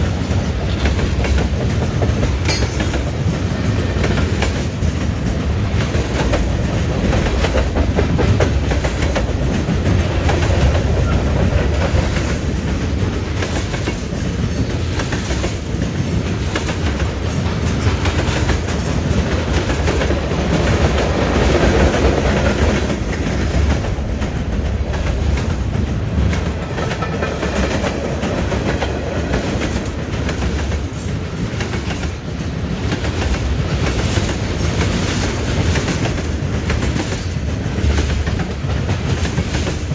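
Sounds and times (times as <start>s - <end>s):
train low rumble: 0.0s - 39.9s
wheels clacking over rail joints: 0.0s - 39.9s.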